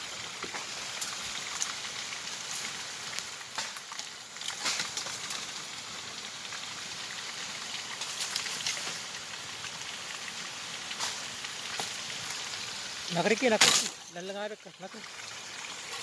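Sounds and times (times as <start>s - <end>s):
water hissing: 0.0s - 16.0s.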